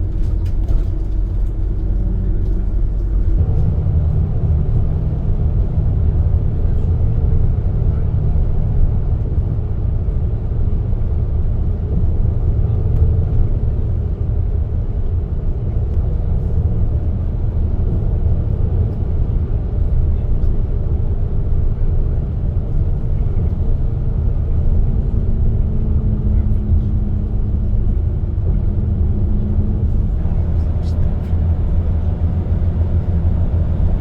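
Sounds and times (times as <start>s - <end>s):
vehicle engine and road noise: 0.0s - 34.0s.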